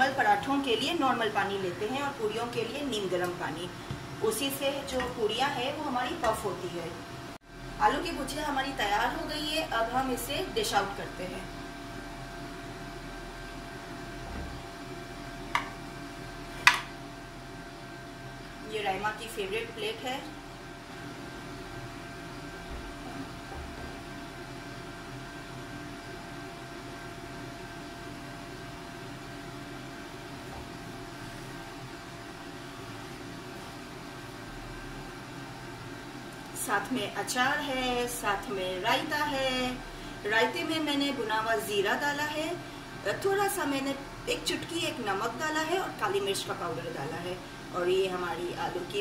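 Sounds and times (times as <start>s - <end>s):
steady background hum: 0.0s - 49.0s.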